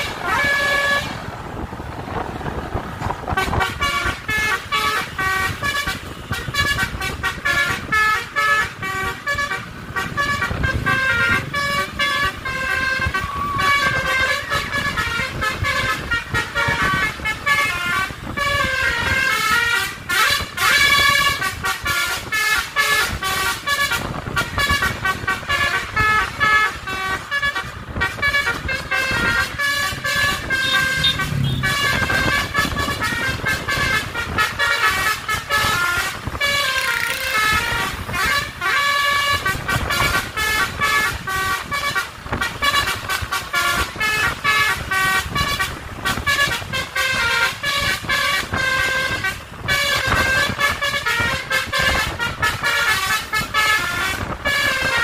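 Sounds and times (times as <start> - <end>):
multi-tone bus horn melody: 0.0 - 1.7, 3.0 - 55.0
road traffic rumble: 0.0 - 55.0.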